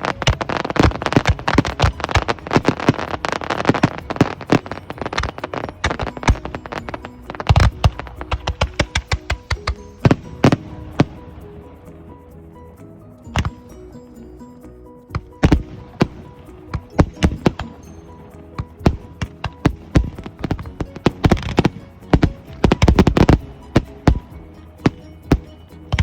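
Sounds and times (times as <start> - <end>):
music: 0.0 - 26.0.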